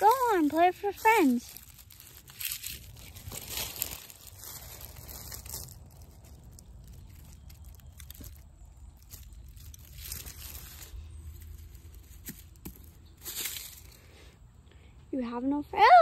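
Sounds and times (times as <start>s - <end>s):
dry leaves rustling and crackling: 0.0s - 14.2s.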